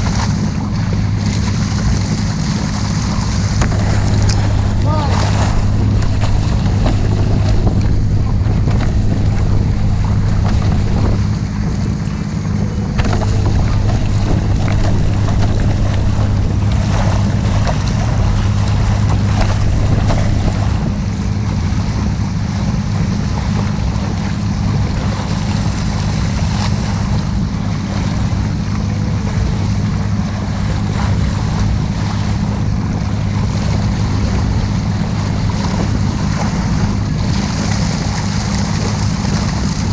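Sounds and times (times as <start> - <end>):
motorboat engine droning: 0.0 - 39.9
rushing water: 0.0 - 39.9
wind buffeting microphone: 0.0 - 39.9.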